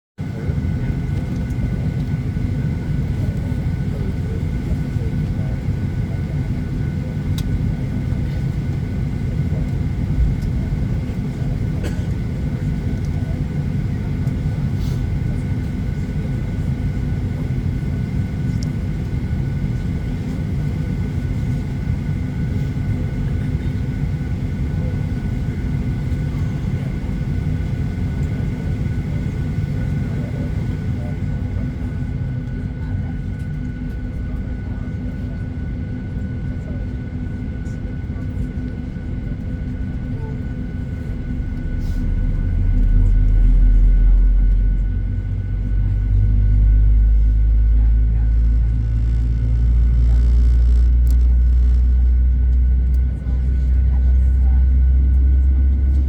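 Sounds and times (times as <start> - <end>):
low aircraft cabin rumble: 0.2 - 56.0.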